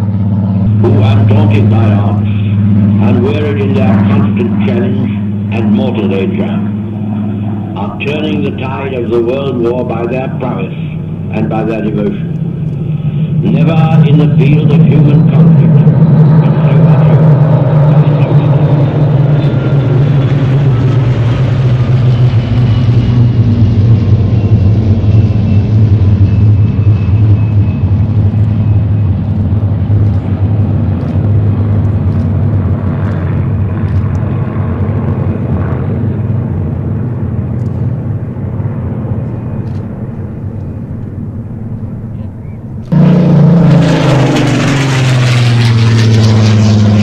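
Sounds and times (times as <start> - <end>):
propeller planes droning past: 0.0 - 47.0.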